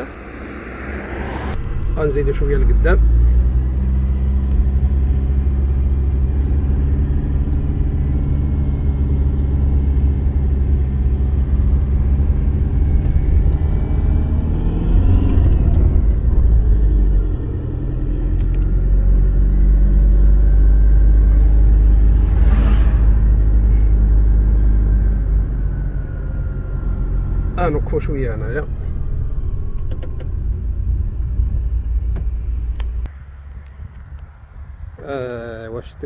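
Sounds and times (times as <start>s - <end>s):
road noise inside car: 0.0s - 35.1s
car engine hum: 0.0s - 36.0s.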